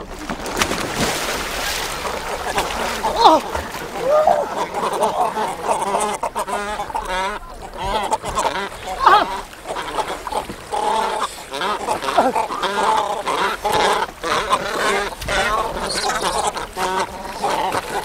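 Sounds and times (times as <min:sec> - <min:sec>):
water splashing: 0:00.0 - 0:18.0
cormorants calling: 0:02.2 - 0:18.0.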